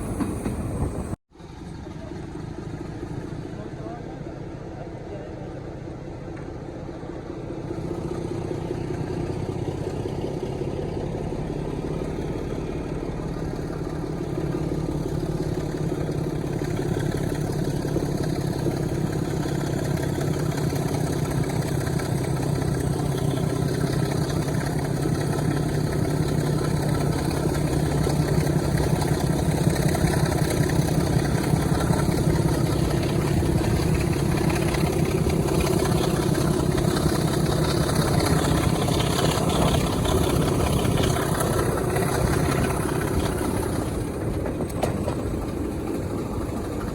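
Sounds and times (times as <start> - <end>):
diesel locomotive engine running: 0.0 - 46.9.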